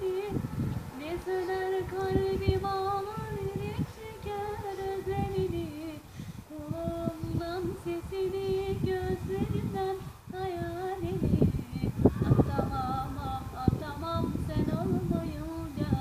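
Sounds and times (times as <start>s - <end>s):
child singing: 0.0s - 6.0s, 6.6s - 16.0s.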